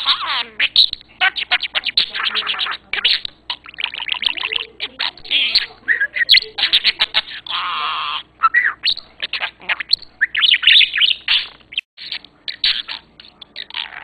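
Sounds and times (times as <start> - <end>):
budgie chattering and warbling: 0.0 - 14.0.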